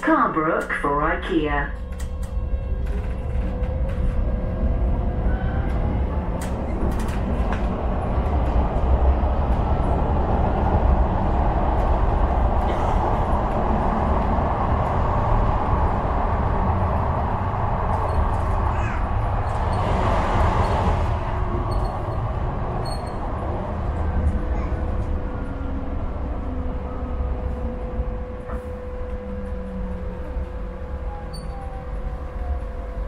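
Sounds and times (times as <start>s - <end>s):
tram passing: 0.0s - 33.0s
wheels rumbling on rails: 0.0s - 33.0s.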